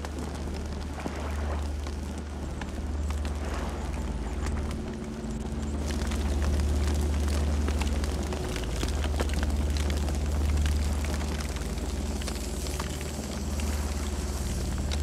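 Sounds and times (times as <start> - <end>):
campfire crackling and popping: 0.0 - 15.0
fire low rumble: 0.0 - 15.0.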